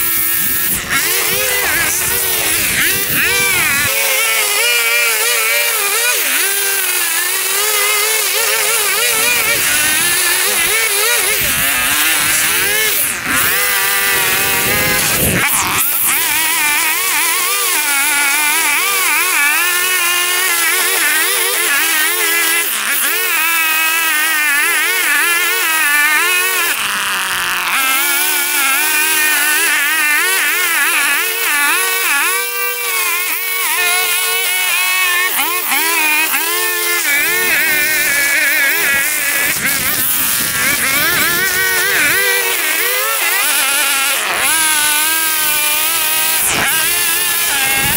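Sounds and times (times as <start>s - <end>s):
small gasoline engine running: 0.0s - 47.9s.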